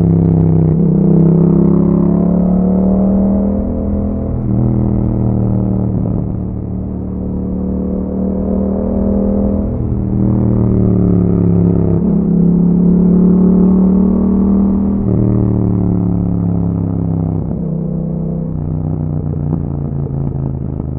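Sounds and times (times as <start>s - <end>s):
motorcycle engine while riding: 0.0s - 20.9s.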